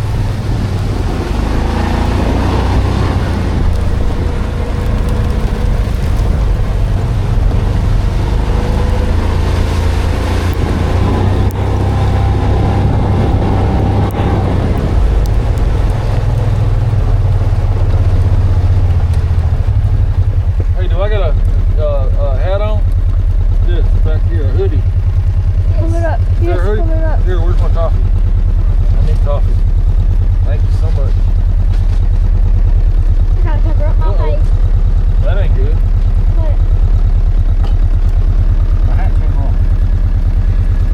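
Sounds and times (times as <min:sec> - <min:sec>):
vehicle engine and road rumble: 0:00.0 - 0:40.9
wind noise: 0:00.0 - 0:40.9.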